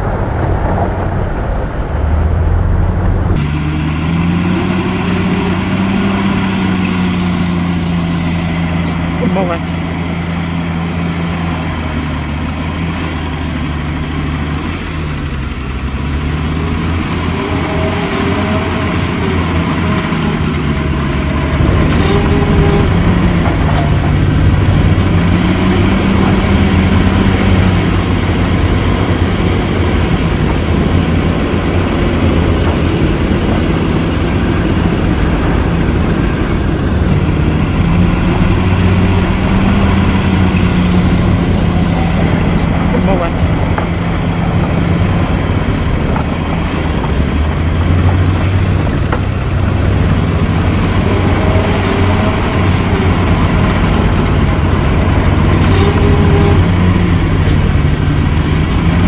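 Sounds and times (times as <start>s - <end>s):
diesel engine revving under load: 0.0s - 59.0s.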